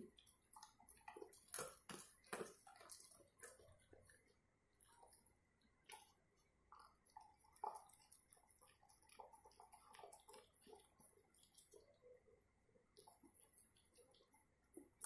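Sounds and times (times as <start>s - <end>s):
dog chewing and licking: 0.0s - 5.3s, 5.9s - 12.2s, 12.9s - 15.0s.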